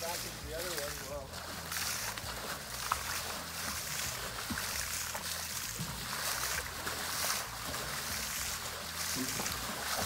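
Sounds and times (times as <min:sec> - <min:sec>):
water sloshing against boat: 0:00.0 - 0:10.0.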